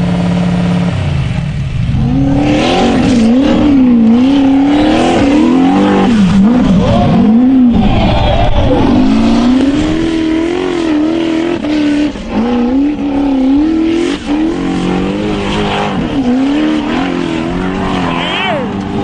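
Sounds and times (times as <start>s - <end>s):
vehicle engine revving hard: 1.8s - 19.0s.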